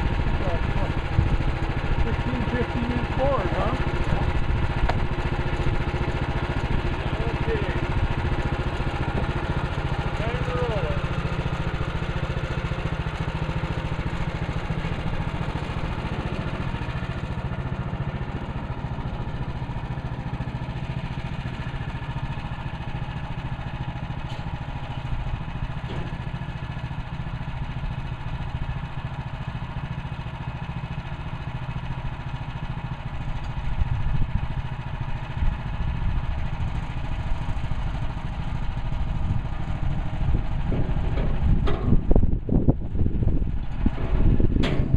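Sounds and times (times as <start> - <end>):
gas engine running: 0.0 - 44.9.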